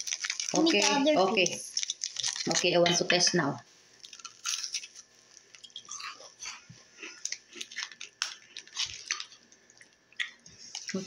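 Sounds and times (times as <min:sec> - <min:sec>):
people crunching crackers: 0:00.0 - 0:02.8, 0:04.0 - 0:11.0.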